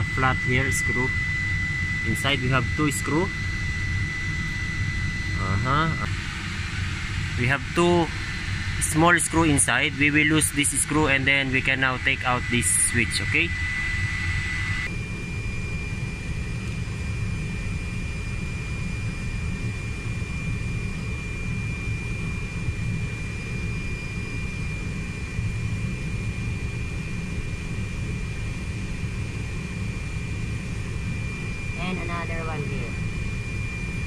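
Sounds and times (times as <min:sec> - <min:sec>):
jet turbine running: 0:00.0 - 0:34.0.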